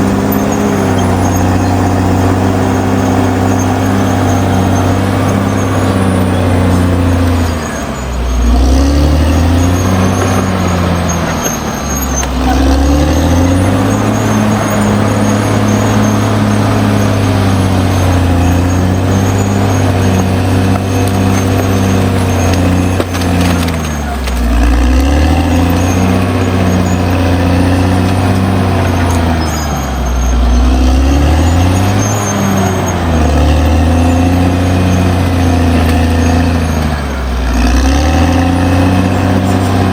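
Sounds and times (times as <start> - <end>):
bulldozer diesel engine running hard: 0.0 - 39.9.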